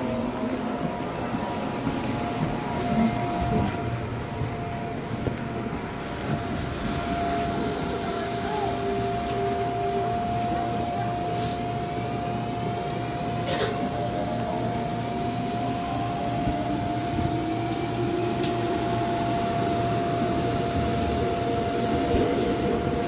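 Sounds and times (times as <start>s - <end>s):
subway car rumble: 0.0s - 23.0s.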